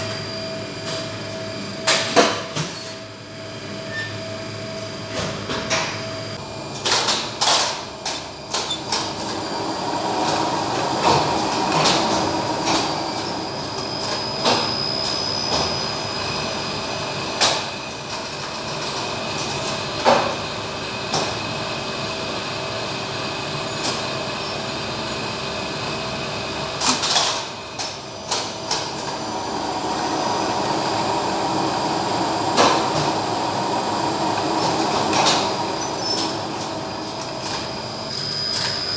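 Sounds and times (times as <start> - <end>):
machinery humming: 3.1 - 38.9.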